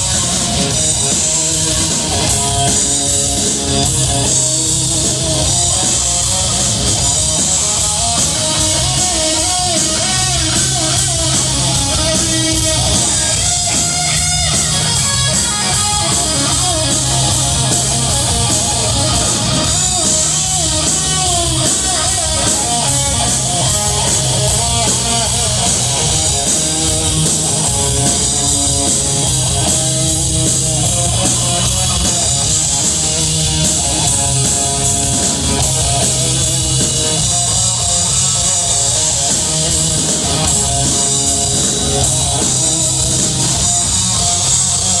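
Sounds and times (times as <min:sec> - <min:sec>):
bass guitar: 0:00.0 - 0:45.0
distorted electric guitar: 0:00.0 - 0:45.0
drum kit with cymbals: 0:00.0 - 0:45.0.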